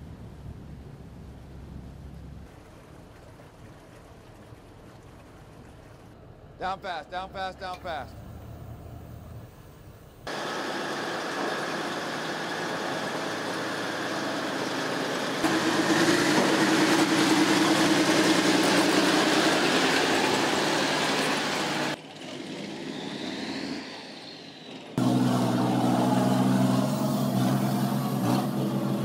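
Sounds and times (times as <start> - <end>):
tracked vehicle engine and tracks: 3.9 - 29.0.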